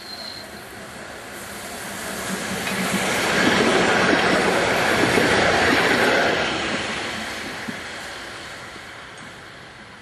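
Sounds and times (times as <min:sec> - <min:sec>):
streetcar wheels rumbling on rails: 0:00.0 - 0:10.0.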